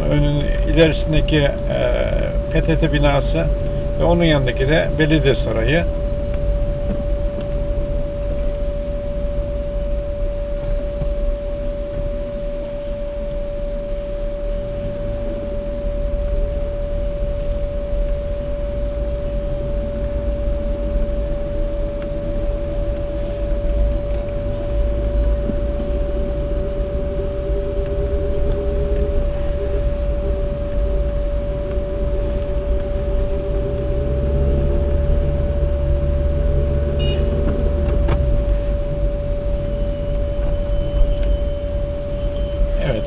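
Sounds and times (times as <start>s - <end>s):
car driving rumble: 0.0s - 13.0s, 13.8s - 43.0s
steady high-pitched tone: 0.0s - 43.0s.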